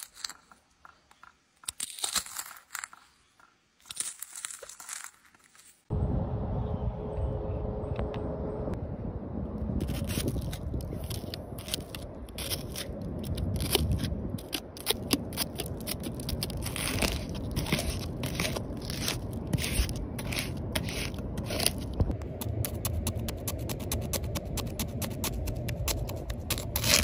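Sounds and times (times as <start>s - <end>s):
blade scraping on bark: 0.0s - 5.9s, 9.8s - 27.0s
eggs crackling and popping: 0.0s - 5.9s, 9.8s - 27.0s.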